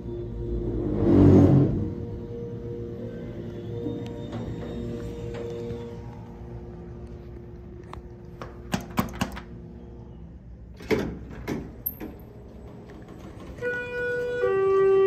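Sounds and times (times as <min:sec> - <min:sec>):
elevator rumble and hum: 0:00.0 - 0:15.0.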